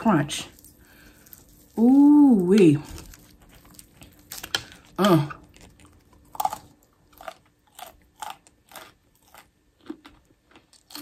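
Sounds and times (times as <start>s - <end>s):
crunchy chewing with mouth closed: 0.5s - 2.0s, 2.8s - 11.0s.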